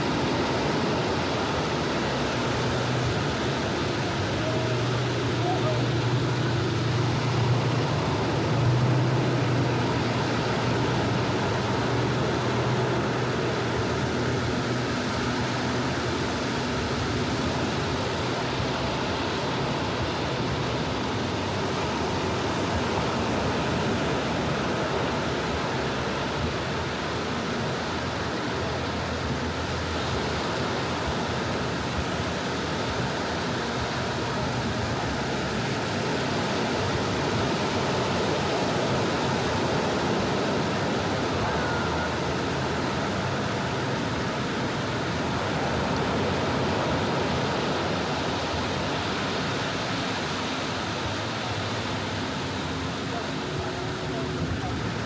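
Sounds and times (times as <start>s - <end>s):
waves washing onto sandy beach: 0.0s - 55.0s.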